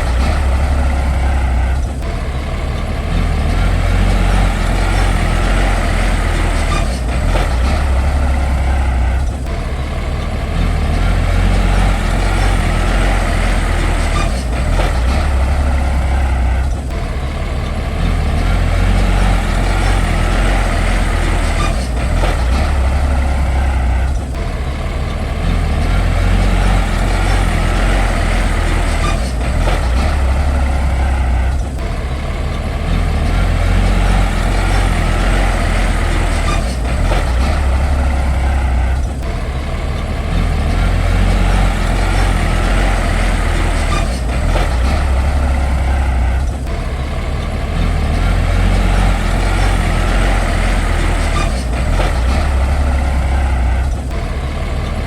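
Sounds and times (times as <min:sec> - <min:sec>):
diesel machinery engine rumble: 0:00.0 - 0:55.0
metal clanking: 0:00.0 - 0:55.0.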